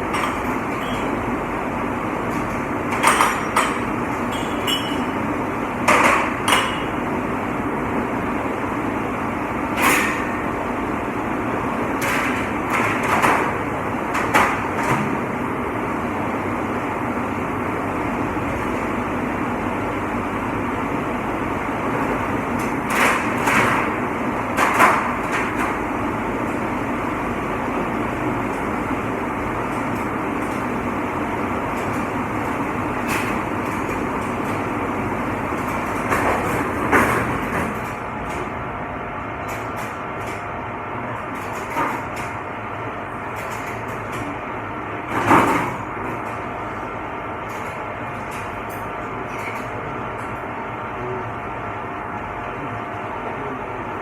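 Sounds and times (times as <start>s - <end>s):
dishwashing machine running: 0.0s - 54.0s.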